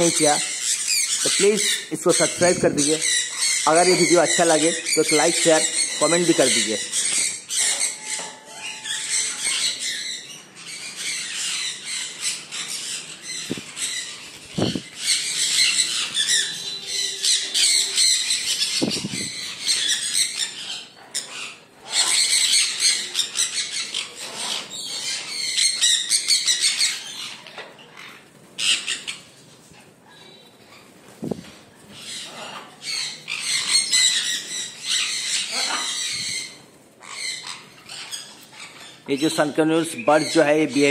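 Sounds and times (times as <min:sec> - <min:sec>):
parrots squawking: 0:00.0 - 0:40.9.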